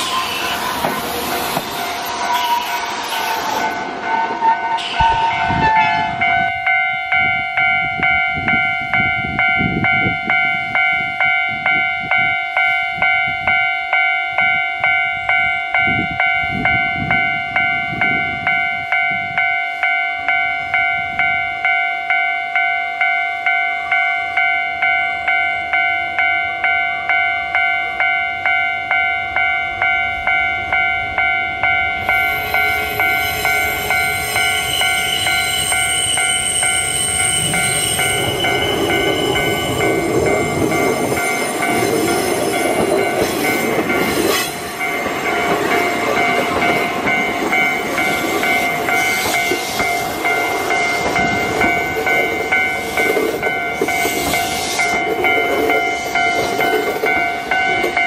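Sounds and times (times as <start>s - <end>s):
train rumbling past: 0.0s - 19.5s, 23.5s - 58.0s
level crossing bell ringing: 6.1s - 58.0s.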